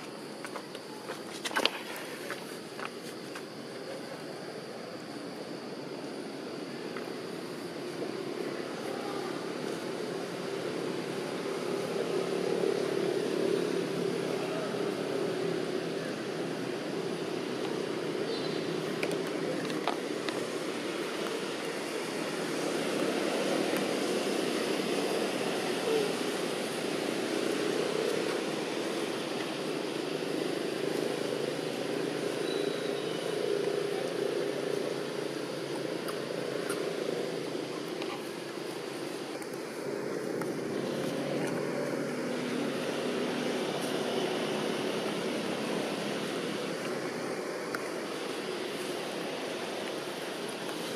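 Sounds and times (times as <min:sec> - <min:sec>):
distant engine drone: 0:00.0 - 0:50.9.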